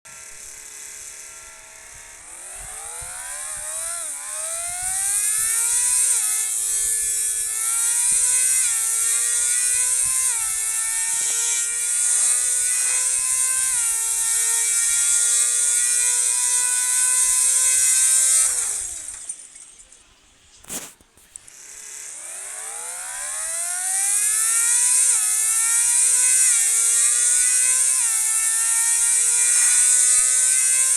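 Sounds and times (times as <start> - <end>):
motor whining: 0.1 - 30.9.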